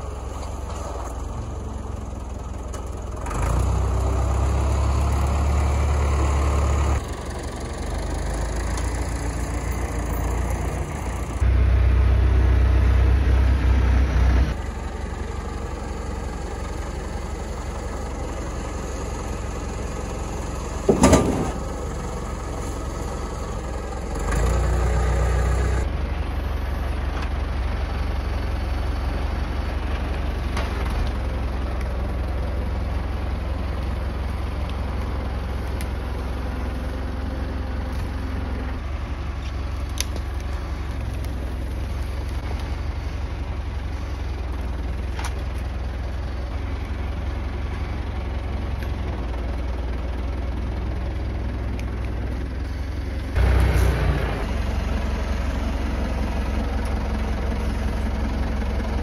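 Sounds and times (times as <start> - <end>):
tractor engine drone: 0.0 - 59.0.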